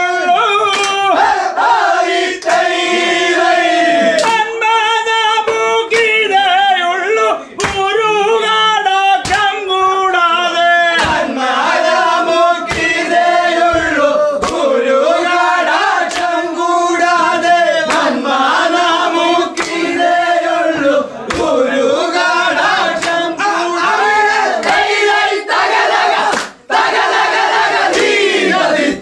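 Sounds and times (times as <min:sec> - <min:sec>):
men singing in unison: 0:00.0 - 0:29.0
hand claps: 0:00.6 - 0:03.0, 0:04.1 - 0:04.6, 0:05.4 - 0:06.4, 0:07.6 - 0:08.0, 0:09.2 - 0:09.7, 0:10.4 - 0:28.6.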